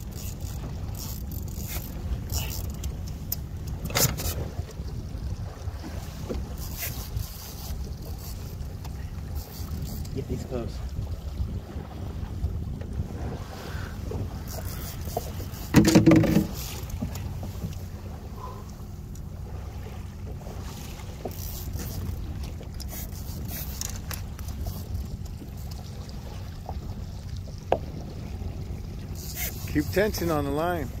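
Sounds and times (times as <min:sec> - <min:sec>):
boat motor running: 0:00.0 - 0:31.0
wind: 0:00.0 - 0:31.0.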